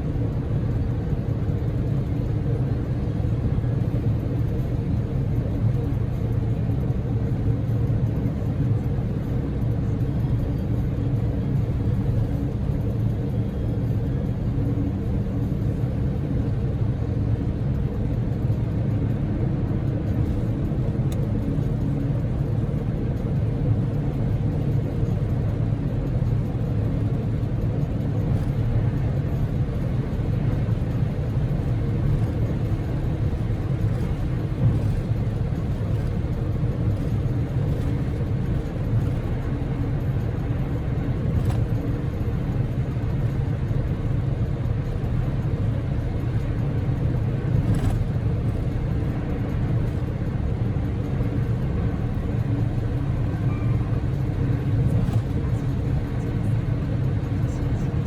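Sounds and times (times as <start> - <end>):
car interior road noise: 0.0 - 58.0
small car engine humming: 0.0 - 58.0.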